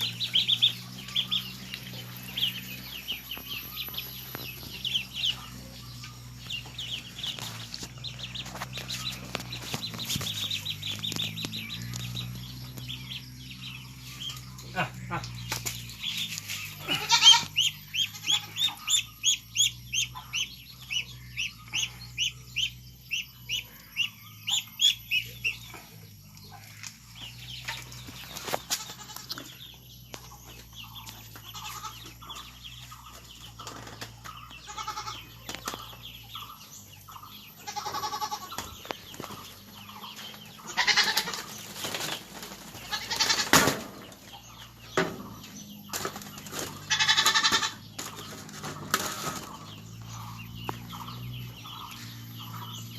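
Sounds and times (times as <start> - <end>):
poultry calling: 0.0 - 52.9.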